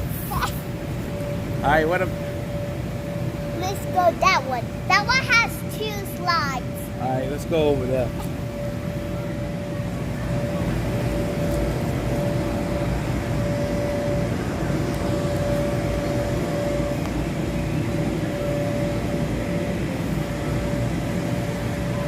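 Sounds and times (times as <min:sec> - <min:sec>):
electric air blowers droning: 0:00.0 - 0:22.0.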